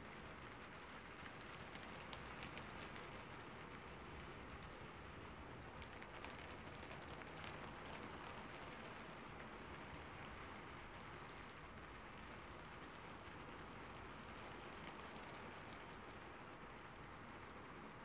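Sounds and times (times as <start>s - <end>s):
faint rain hiss: 0.0s - 18.0s.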